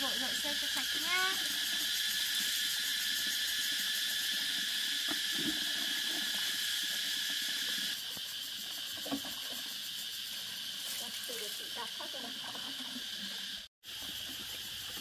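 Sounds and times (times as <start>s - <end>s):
insect chorus chirring: 0.0s - 15.0s.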